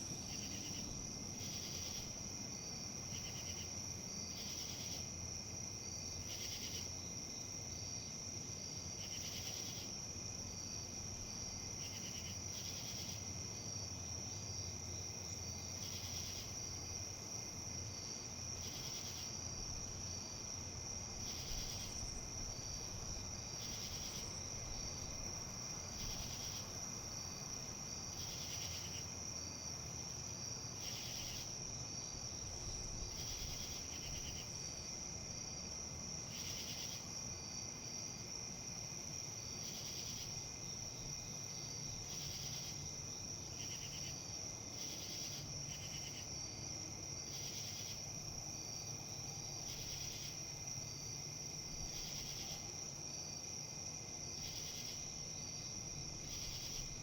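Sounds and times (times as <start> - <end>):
high-pitched insect trill: 0.0 - 19.4, 21.2 - 57.0.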